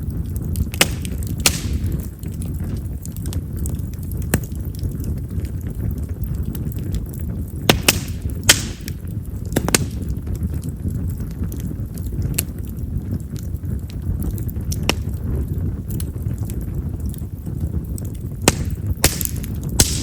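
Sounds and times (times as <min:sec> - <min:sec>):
campfire flames rumbling: 0:00.0 - 0:20.0
firewood crackling pops: 0:00.0 - 0:20.0.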